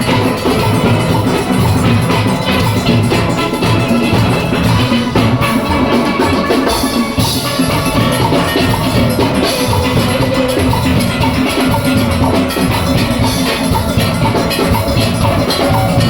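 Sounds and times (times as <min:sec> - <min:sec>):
drum kit rhythm: 0:00.0 - 0:16.0
steelpans playing: 0:00.0 - 0:16.0.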